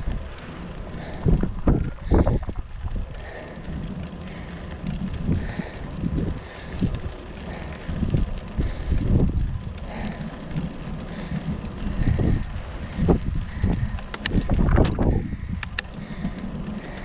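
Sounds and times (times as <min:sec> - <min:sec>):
bike rolling on tarmac: 0:00.0 - 0:17.0
wind buffeting microphone: 0:00.0 - 0:17.0.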